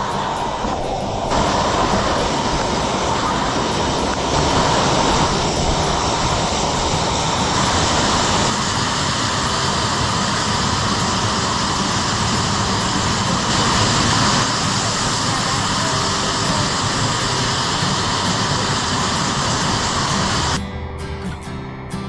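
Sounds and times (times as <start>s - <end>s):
waterfall rushing: 0.0s - 20.6s.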